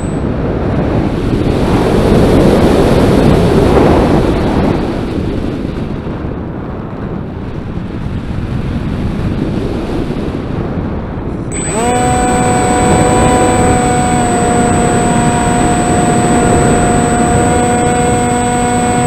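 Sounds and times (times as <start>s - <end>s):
wind roar: 0.0s - 19.0s.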